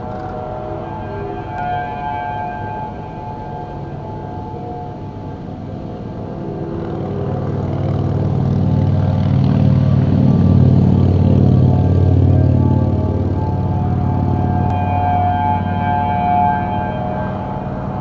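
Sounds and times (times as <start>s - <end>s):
faint warning sirens: 0.0s - 18.0s
vehicle engine running: 3.5s - 18.0s.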